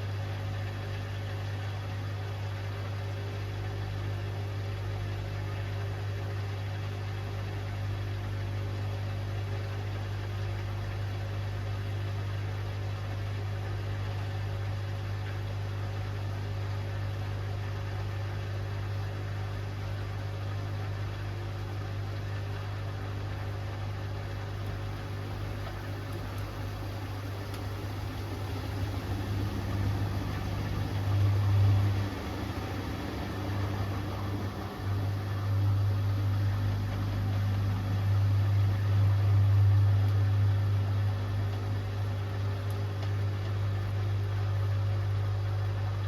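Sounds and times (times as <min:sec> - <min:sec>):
washing machine humming: 0:00.0 - 0:46.0.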